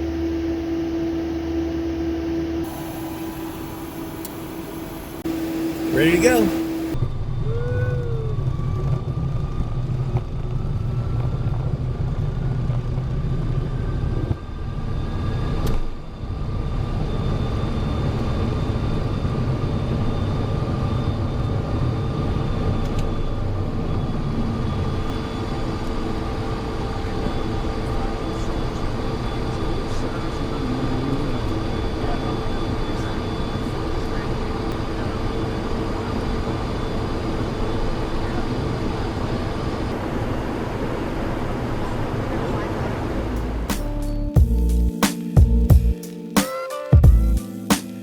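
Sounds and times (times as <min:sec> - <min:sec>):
jet engines from inside cabin: 0:00.0 - 0:44.2.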